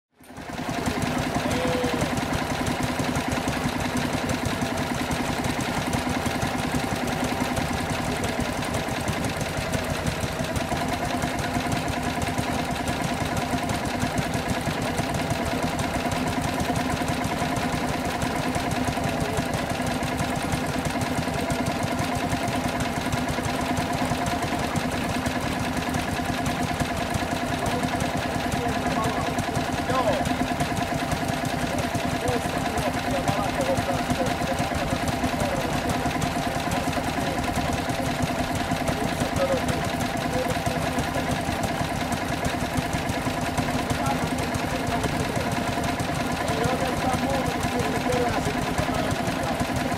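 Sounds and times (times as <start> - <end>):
stationary engines running: 0.2 - 49.9.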